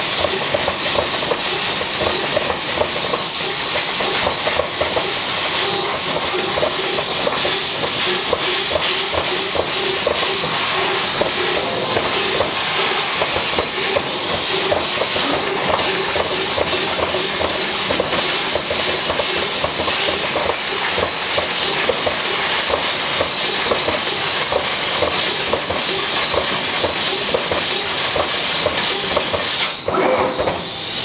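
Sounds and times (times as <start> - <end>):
laser cutter cutting steel: 0.0 - 31.0.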